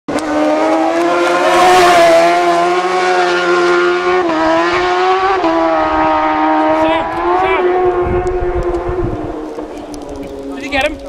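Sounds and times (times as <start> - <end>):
motorcycle engine at high revs: 0.1 - 11.0.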